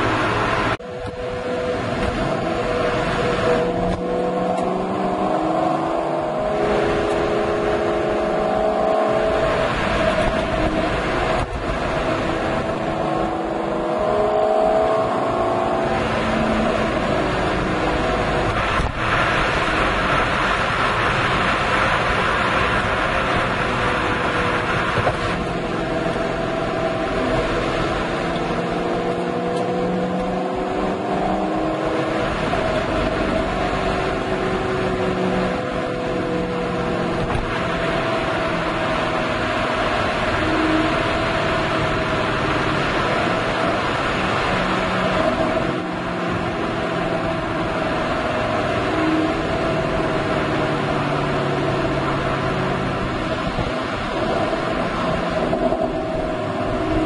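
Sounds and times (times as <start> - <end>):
car engine exhaust revving: 0.0 - 57.0
wind noise on microphone: 0.0 - 57.0.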